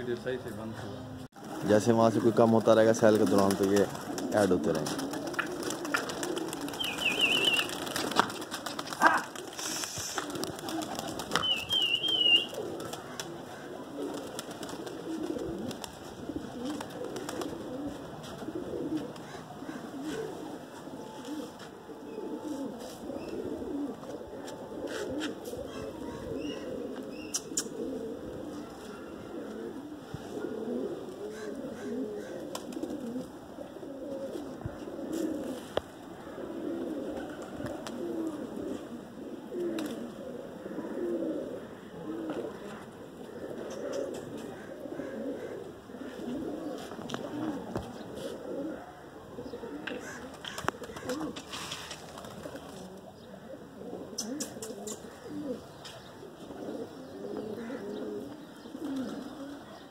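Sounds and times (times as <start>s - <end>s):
pigeons cooing: 0.4s - 59.9s.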